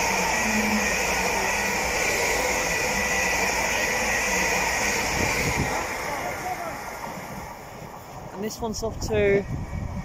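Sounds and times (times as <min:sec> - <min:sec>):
train wheels rushing on rail: 0:00.0 - 0:10.0.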